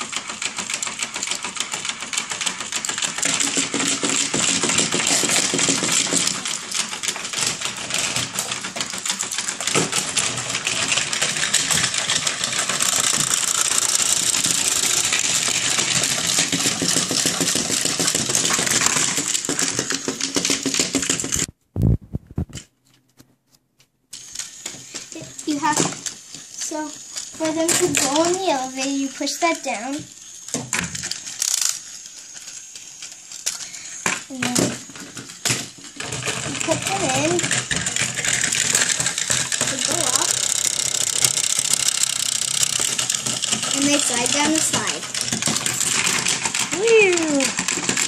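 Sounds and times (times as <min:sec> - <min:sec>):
toy mechanism clicking rattle: 0:00.0 - 0:21.5, 0:24.1 - 0:48.0.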